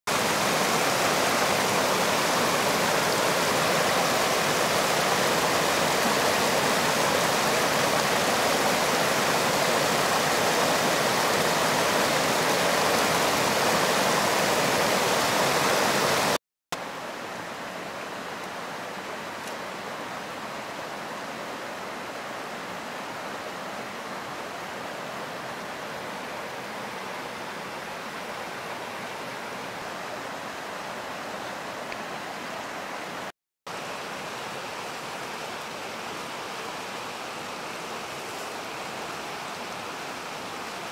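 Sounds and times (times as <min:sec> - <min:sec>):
water rushing over rocks: 0:00.1 - 0:40.9.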